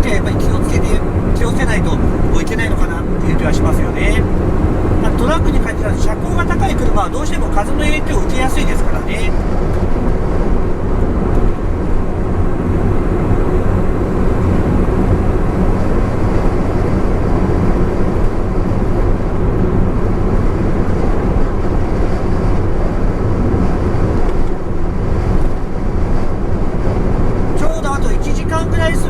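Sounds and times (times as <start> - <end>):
car engine cruising: 0.0 - 29.0
tyre and road roar: 0.0 - 29.0.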